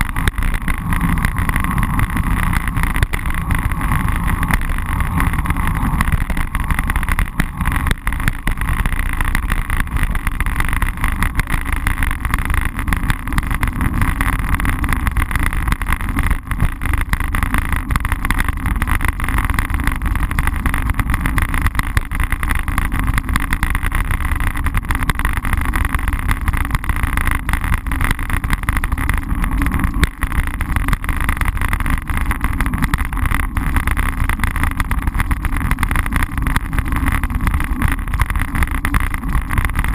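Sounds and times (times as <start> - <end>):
road vibration rumble and rattle: 0.0 - 39.9
wind noise: 0.0 - 39.9.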